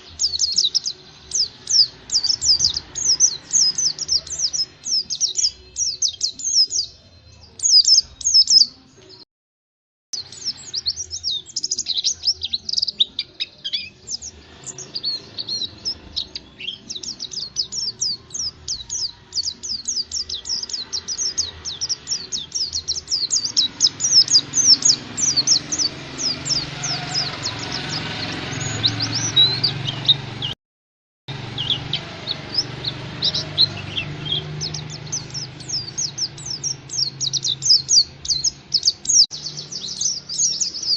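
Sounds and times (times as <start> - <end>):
bird twittering chirps: 0.0 - 8.8, 10.2 - 30.6, 31.3 - 40.9.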